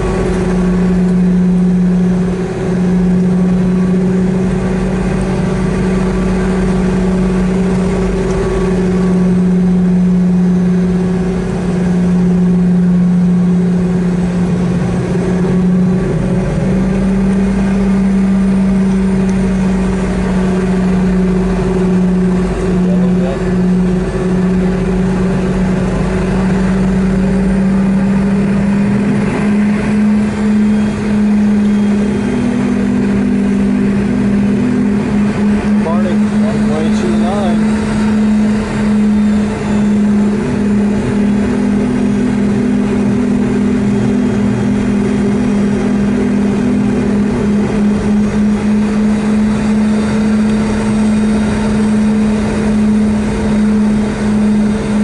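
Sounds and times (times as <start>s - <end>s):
jet engine drone: 0.0s - 55.0s
low hum: 0.0s - 55.0s.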